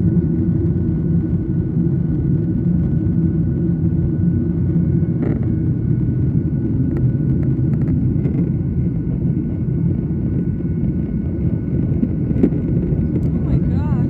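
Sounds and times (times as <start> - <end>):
jet engines and airflow rumble: 0.0 - 14.0.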